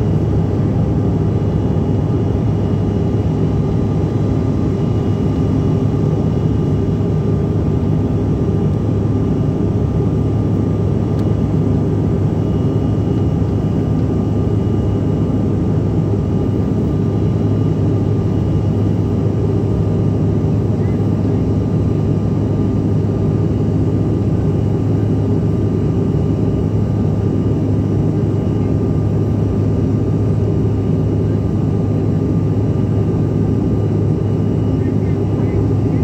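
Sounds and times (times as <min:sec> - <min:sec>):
faint steady whine: 0:00.0 - 0:36.0
jet cabin low rumble: 0:00.0 - 0:36.0.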